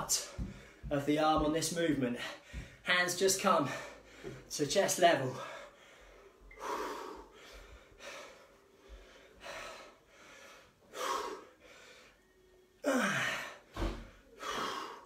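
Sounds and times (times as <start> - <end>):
man breathing hard: 0.1 - 0.9, 2.2 - 2.9, 3.6 - 4.5, 5.3 - 15.0.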